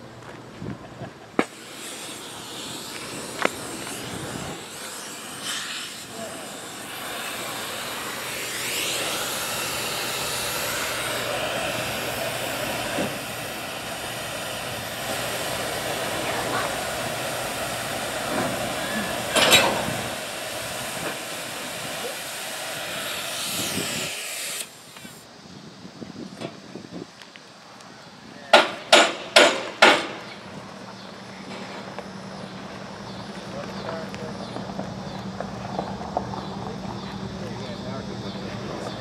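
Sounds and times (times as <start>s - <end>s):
steady hissing: 1.4s - 39.0s.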